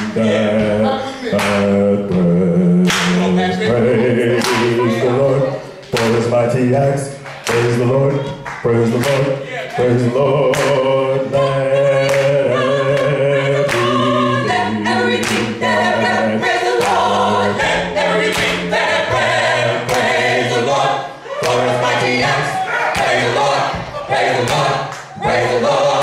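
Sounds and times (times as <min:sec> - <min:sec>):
vocal group singing in harmony: 0:00.0 - 0:26.0.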